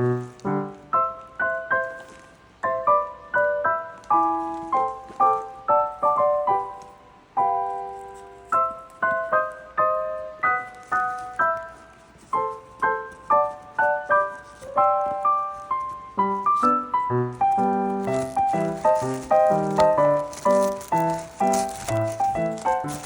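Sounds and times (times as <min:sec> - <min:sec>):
solo piano melody: 0:00.0 - 0:23.0.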